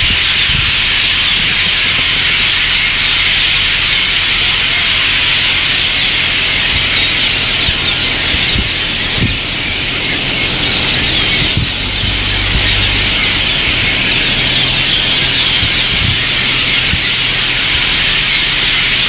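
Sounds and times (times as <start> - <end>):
flock of songbirds chattering: 0.0 - 19.0.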